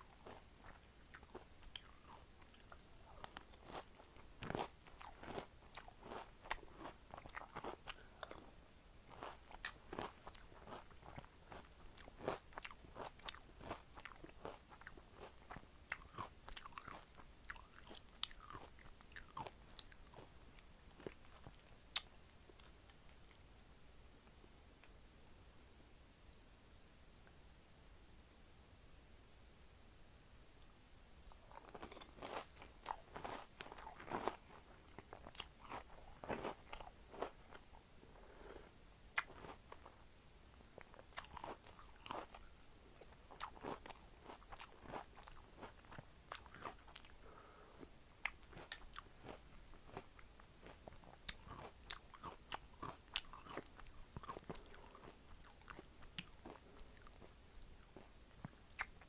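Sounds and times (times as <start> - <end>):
person chewing crunchy cereal: 0.0 - 23.5, 31.2 - 40.0, 40.8 - 59.0.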